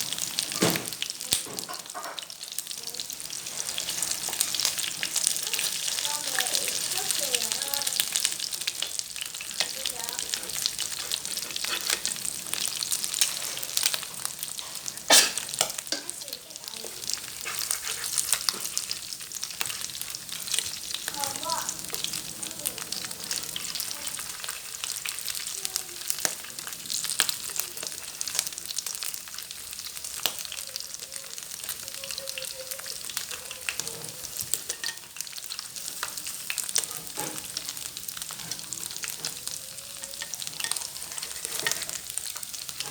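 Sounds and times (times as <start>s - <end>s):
fish sizzling in hot oil: 0.0s - 42.9s.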